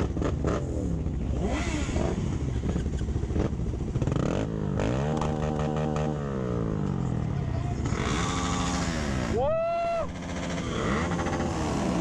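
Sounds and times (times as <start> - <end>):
motorcycle engine revving: 0.0 - 12.0
motorcycle engines idling: 0.0 - 12.0.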